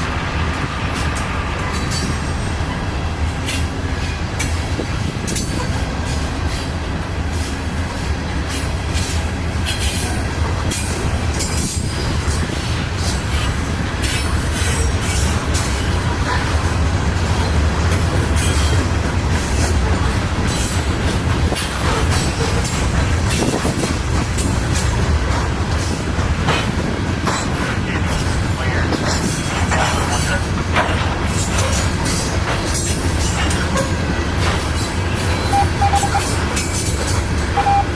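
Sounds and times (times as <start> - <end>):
freight train rumbling: 0.0 - 37.9
wheels clattering on rails: 0.0 - 37.9.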